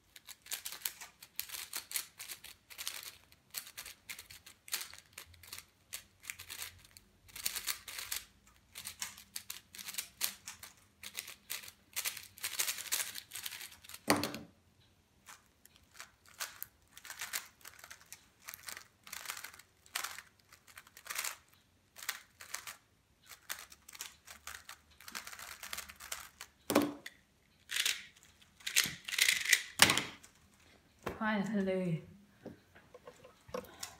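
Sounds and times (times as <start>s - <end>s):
plastic puzzle cubes clicking: 0.0s - 14.6s, 15.2s - 30.3s, 32.9s - 33.9s.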